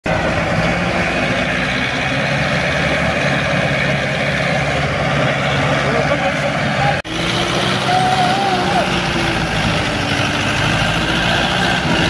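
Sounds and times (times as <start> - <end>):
tractor diesel engines idling: 0.1 - 12.0.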